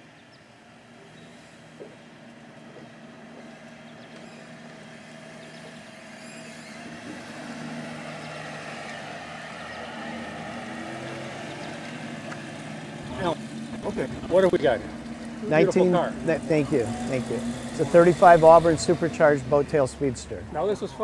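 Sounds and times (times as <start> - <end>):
car engine passing: 1.3 - 21.0.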